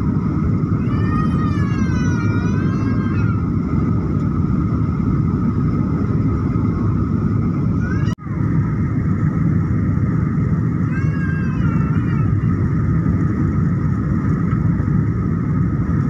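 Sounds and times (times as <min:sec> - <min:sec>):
airliner cabin engine roar: 0:00.0 - 0:16.0.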